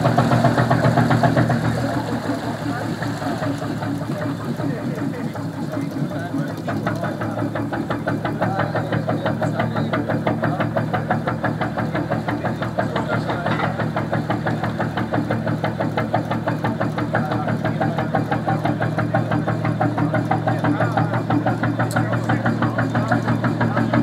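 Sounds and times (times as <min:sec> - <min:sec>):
two-cylinder boat engine running: 0:00.0 - 0:24.0.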